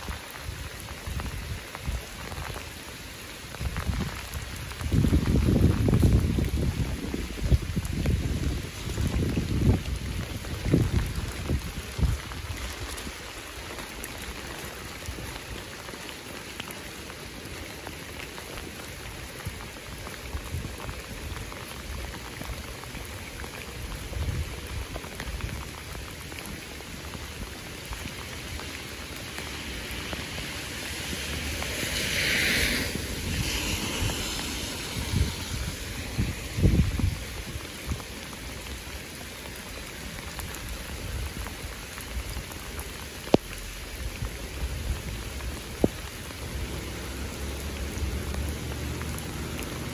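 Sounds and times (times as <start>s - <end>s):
rain on wet pavement: 0.0s - 49.9s.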